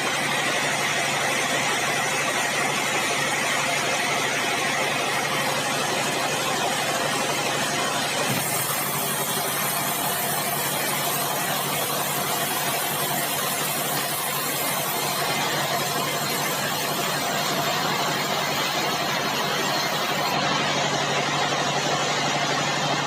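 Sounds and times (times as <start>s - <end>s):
sawmill machinery humming: 0.0s - 23.0s.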